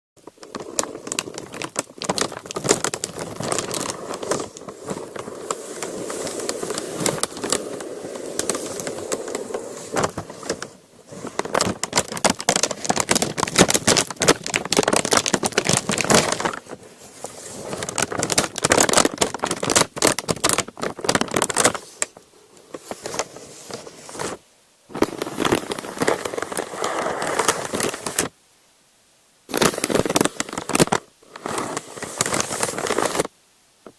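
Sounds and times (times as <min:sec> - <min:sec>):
paper crinkling and crumpling: 0:00.2 - 0:28.3, 0:29.5 - 0:33.3.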